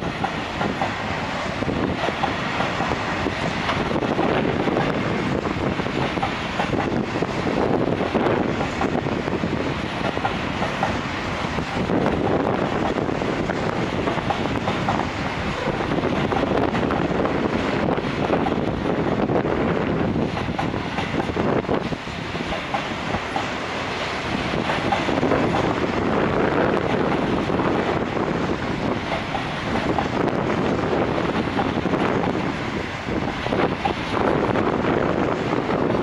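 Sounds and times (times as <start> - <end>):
freight train rolling past: 0.0 - 36.0.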